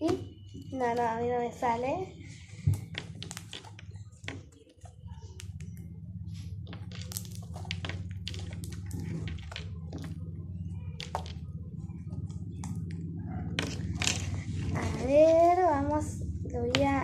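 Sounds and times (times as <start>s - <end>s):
steady low hum: 0.0s - 17.0s
slime squelching: 2.1s - 17.0s.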